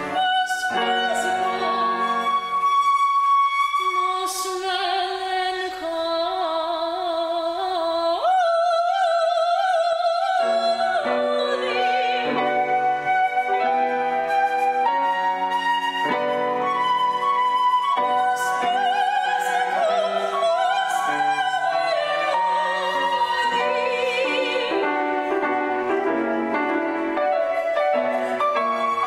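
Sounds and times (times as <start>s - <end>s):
piano accompaniment: 0.0s - 5.6s, 8.3s - 29.0s
flute: 0.0s - 5.8s, 8.2s - 29.0s
soprano singing operatic aria: 0.0s - 29.0s.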